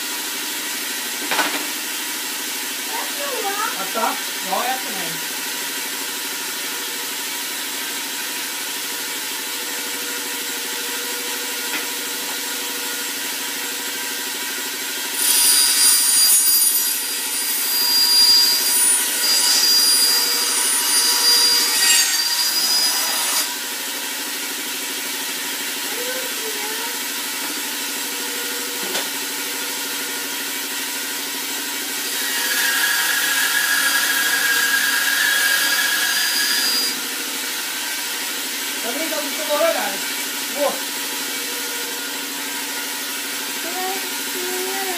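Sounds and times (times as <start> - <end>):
bandsaw running: 0.0 - 44.9
bandsaw cutting wood: 0.7 - 44.9.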